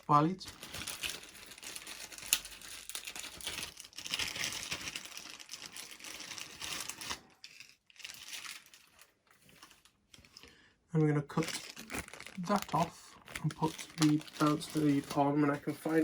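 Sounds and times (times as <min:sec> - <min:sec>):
wires and small parts rustling: 0:00.0 - 0:16.0.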